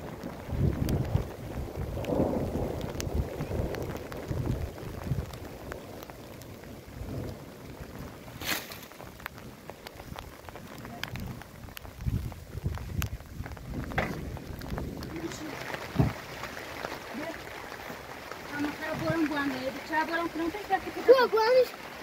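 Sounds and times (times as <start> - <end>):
rain on a plastic tarp: 0.0 - 22.0.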